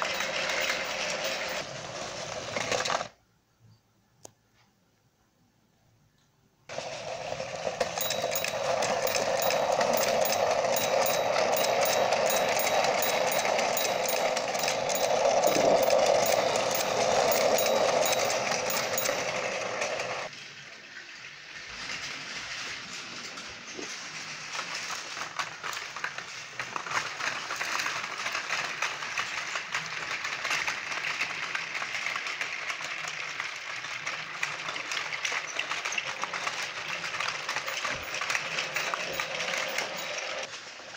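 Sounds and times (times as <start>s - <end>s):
toy train fast ticking rattle: 0.0s - 3.1s, 6.7s - 40.6s
toy train motor whirring: 0.0s - 3.2s, 6.7s - 20.3s, 21.6s - 40.7s.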